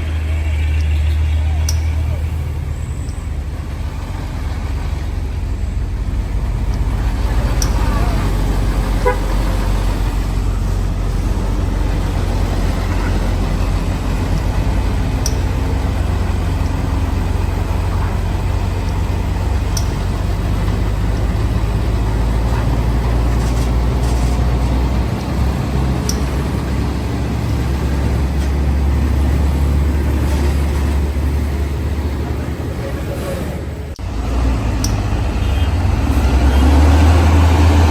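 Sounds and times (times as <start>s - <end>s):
diesel truck engine under load: 0.0s - 37.9s.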